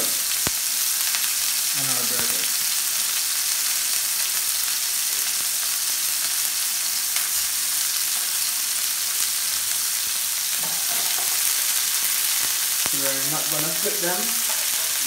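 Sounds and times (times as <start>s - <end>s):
patties sizzling in frying pan: 0.0s - 15.0s.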